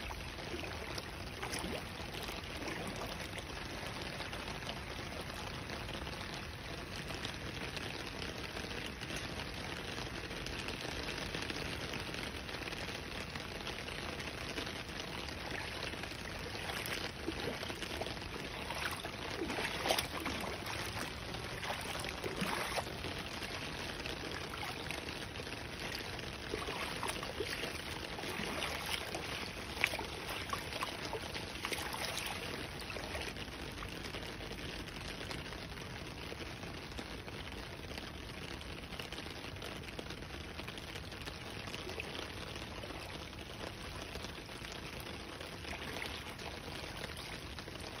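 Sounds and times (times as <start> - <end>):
heavy rain splashing on water: 0.0 - 48.0.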